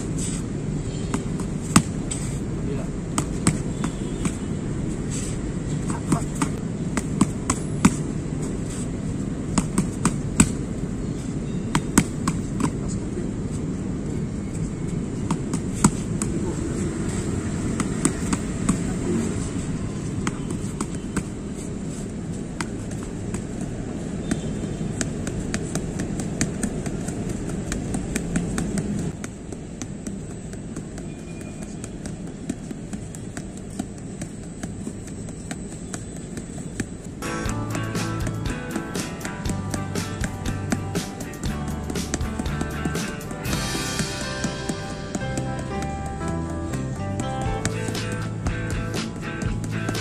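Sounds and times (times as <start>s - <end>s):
boxing gloves hitting focus mitts: 1.0s - 4.6s, 5.7s - 10.8s, 11.7s - 12.9s, 15.2s - 50.0s.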